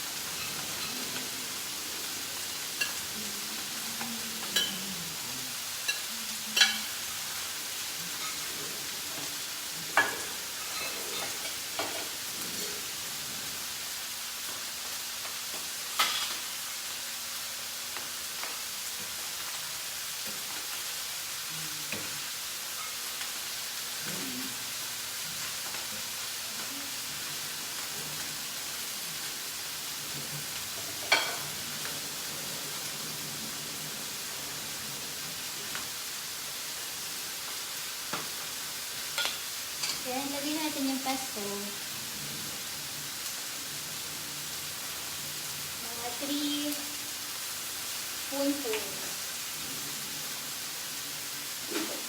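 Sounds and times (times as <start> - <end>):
food sizzling in a frying pan: 0.0 - 52.0.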